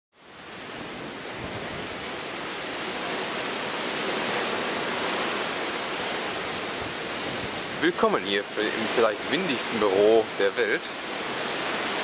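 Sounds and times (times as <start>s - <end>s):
sea water rushing along hull: 0.1s - 12.0s.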